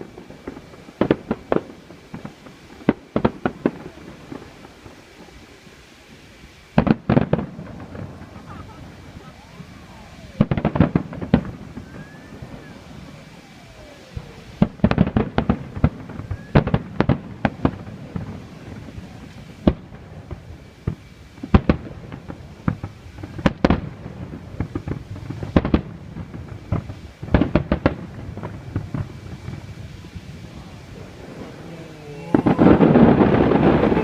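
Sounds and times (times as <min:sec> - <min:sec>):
fireworks bursting with sharp bangs: 0:00.0 - 0:34.0
low rumble of fireworks barrage: 0:00.0 - 0:34.0.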